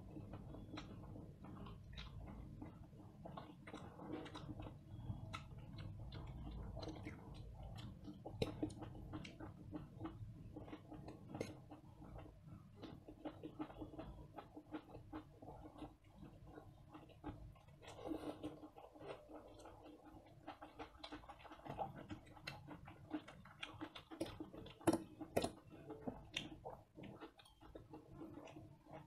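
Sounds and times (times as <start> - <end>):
people chewing and slurping: 0.0 - 29.0.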